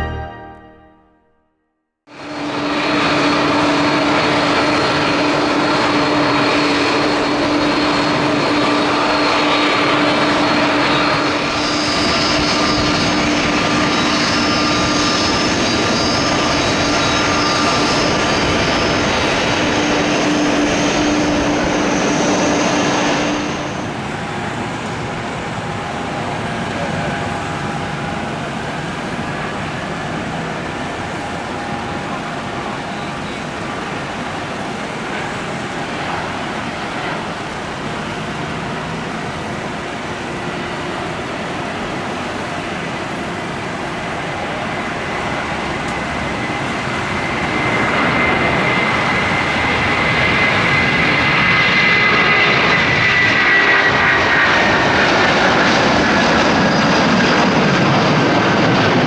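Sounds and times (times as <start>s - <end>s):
jet engines running: 2.1s - 59.0s.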